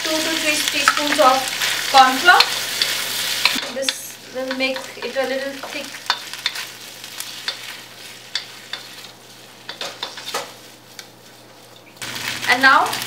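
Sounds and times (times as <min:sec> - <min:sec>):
food sizzling: 0:00.0 - 0:13.0
wooden spatula scraping a wok: 0:00.3 - 0:12.5.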